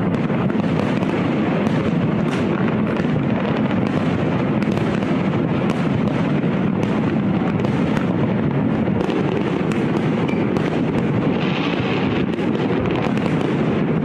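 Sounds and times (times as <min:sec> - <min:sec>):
fireworks rumble: 0:00.0 - 0:14.0
fireworks sharp pops: 0:00.0 - 0:14.0.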